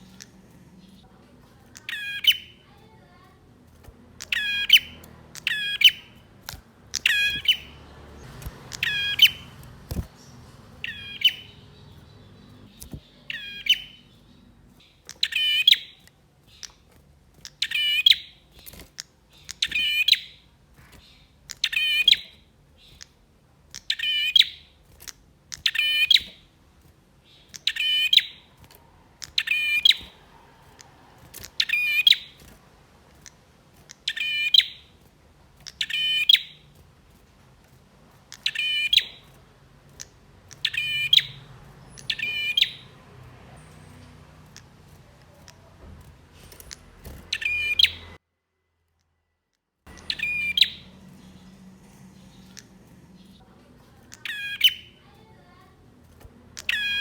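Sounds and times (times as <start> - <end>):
bird chirping call: 0.0 - 3.4, 4.1 - 26.5, 27.2 - 32.5, 33.2 - 35.0, 35.6 - 36.8, 38.3 - 48.2, 49.9 - 57.0.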